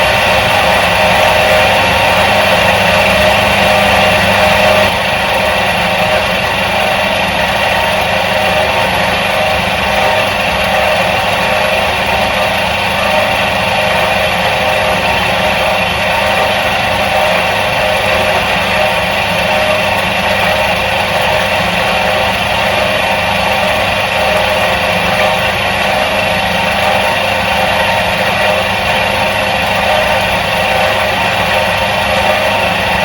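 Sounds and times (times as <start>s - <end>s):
washing machine motor humming: 0.0s - 33.0s.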